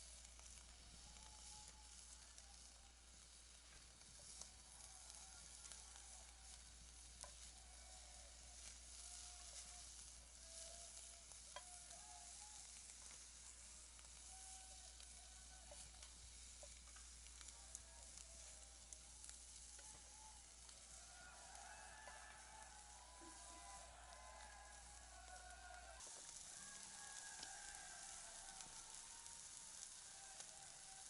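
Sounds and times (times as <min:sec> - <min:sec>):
fire sizzling and crackling: 0:00.0 - 0:31.0.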